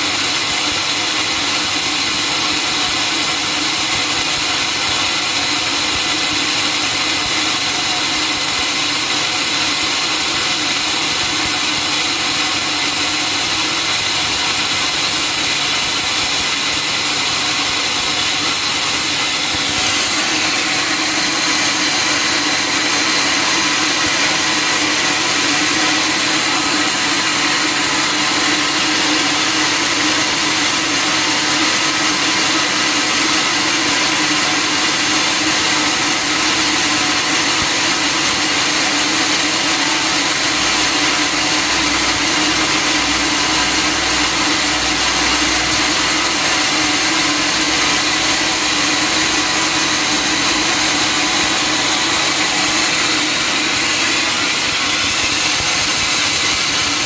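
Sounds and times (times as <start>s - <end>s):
sawmill saw cutting log: 0.0s - 57.0s
steady machine hum: 0.0s - 57.0s.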